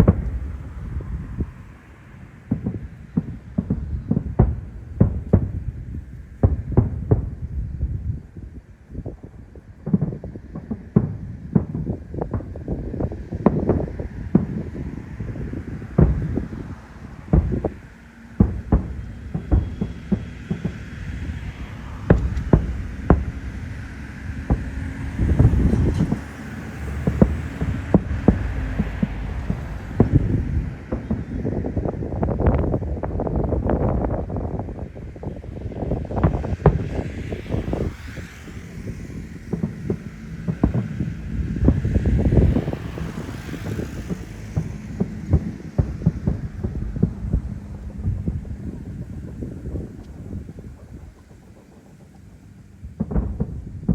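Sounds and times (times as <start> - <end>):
low rumble: 0.0 - 2.2, 12.0 - 53.9
fireworks booms and cracks: 0.0 - 53.9
wind buffeting microphone: 0.0 - 53.9.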